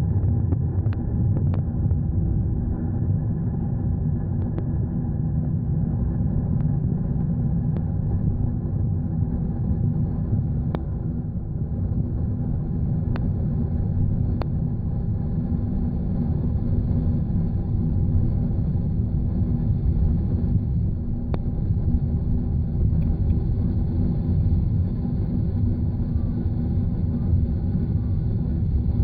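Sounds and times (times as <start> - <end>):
airplane cabin rumble: 0.0 - 29.0.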